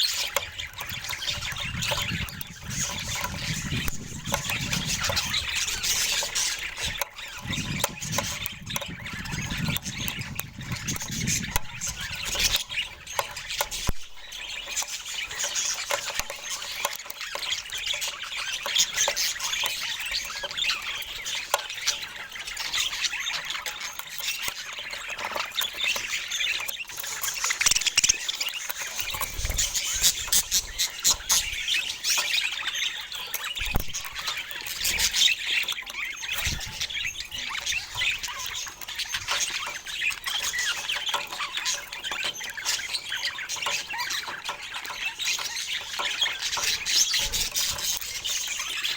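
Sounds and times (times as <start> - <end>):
budgerigars chattering and squawking: 0.0 - 48.9.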